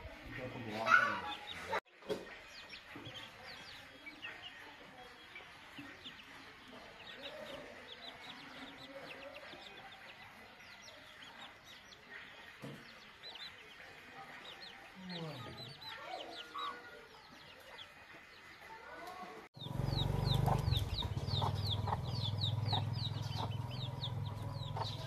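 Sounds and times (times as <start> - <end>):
chickens clucking: 0.0 - 25.0
chicks peeping: 0.2 - 25.0.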